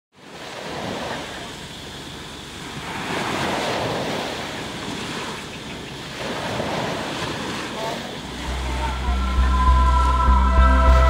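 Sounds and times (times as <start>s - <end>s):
surf washing onto beach: 0.2s - 11.0s.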